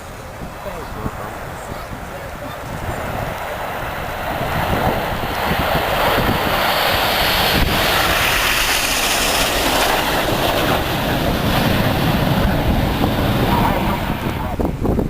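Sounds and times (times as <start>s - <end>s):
jets flying past: 0.0s - 15.0s
wind buffeting microphone: 0.0s - 15.0s.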